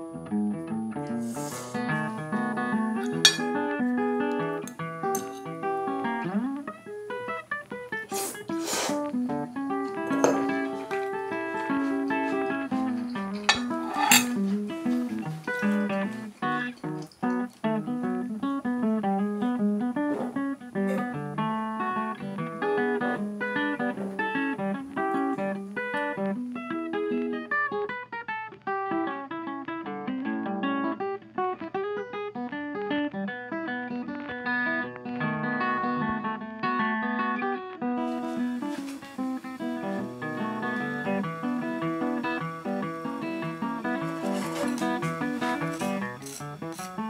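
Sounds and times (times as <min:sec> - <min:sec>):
plucked guitar music: 0:00.0 - 0:47.0.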